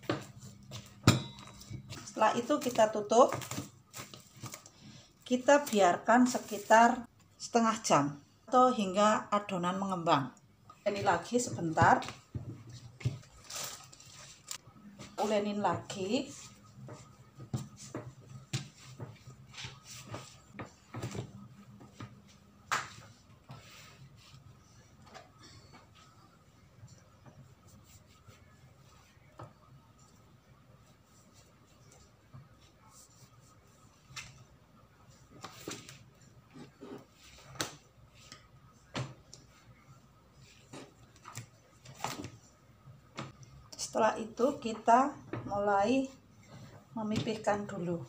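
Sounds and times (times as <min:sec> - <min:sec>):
dough kneaded by hand: 0:00.0 - 0:07.8, 0:08.9 - 0:48.0.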